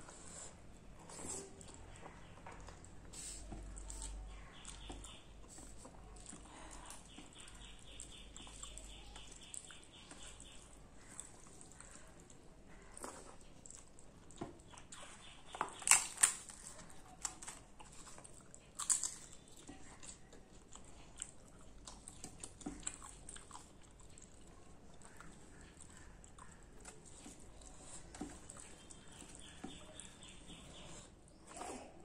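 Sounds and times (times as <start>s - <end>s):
chewing: 0.0s - 32.0s.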